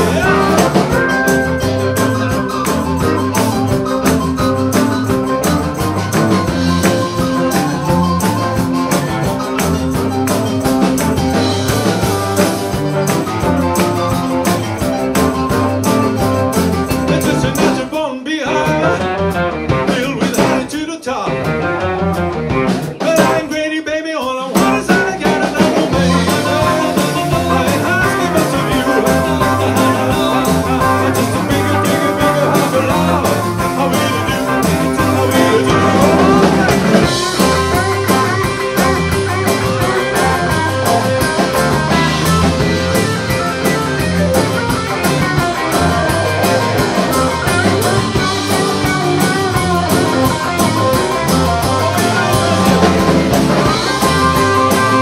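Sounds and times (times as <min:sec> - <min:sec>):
keyboard: 0:00.0 - 0:20.7, 0:24.6 - 0:55.0
electric guitar: 0:00.0 - 0:23.8, 0:24.4 - 0:55.0
bass: 0:00.0 - 0:23.9, 0:24.5 - 0:55.0
drums: 0:00.0 - 0:55.0.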